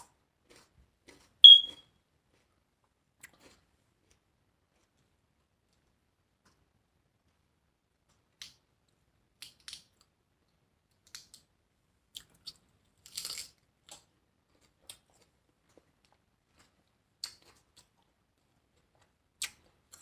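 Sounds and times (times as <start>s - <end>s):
chewing and crunching lettuce: 0.0s - 11.5s, 12.1s - 20.0s.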